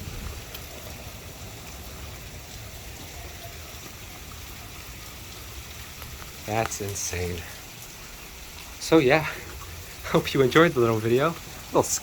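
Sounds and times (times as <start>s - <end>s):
steady rain: 0.0s - 12.0s
water running and trickling: 0.0s - 12.0s.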